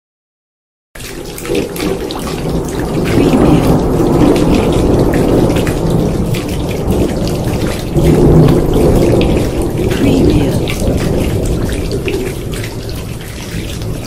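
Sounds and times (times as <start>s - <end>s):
heavy rain pattering: 1.0s - 14.0s
rolling thunder rumble: 1.1s - 14.0s.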